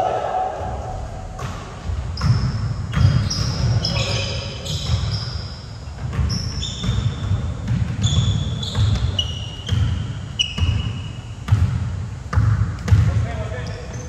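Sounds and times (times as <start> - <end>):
sneakers squeaking: 0.0 - 14.0
basketball bouncing on gym floor: 0.6 - 14.0.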